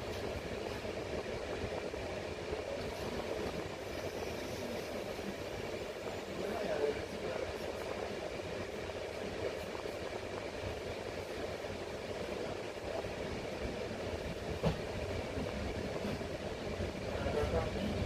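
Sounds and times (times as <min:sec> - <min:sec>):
electric train rumbling and humming: 0:00.0 - 0:18.0.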